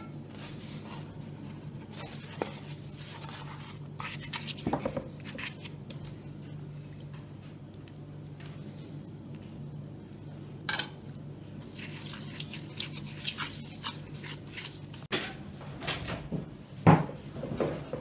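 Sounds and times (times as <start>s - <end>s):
steady low hum: 0.0s - 17.7s.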